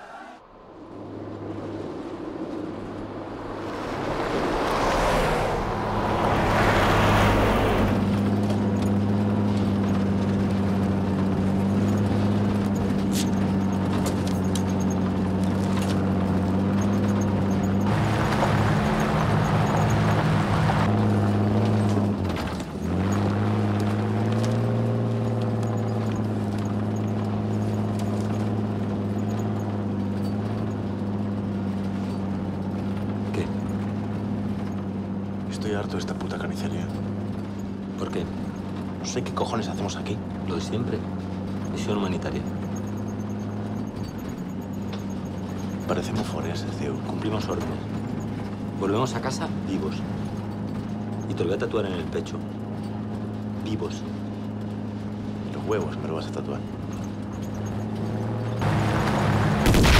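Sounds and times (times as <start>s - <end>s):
passing and tyre noise: 0.0s - 59.9s
vehicle engine running: 0.6s - 59.9s.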